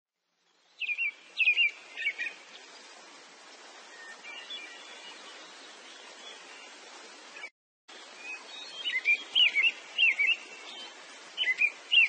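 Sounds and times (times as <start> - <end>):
steady outdoor hiss: 0.2 - 12.0
birds chirping: 0.6 - 12.0.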